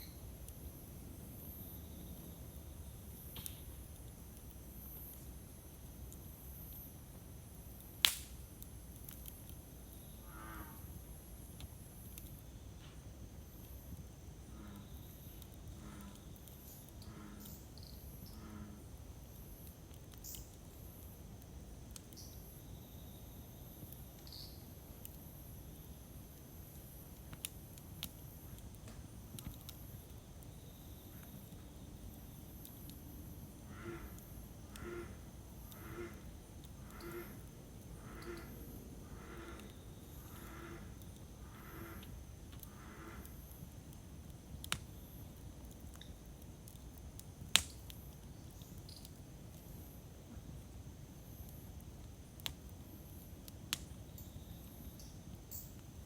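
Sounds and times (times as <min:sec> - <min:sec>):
wood crackles: 0:00.0 - 0:56.0
campfire rumble: 0:00.1 - 0:56.0.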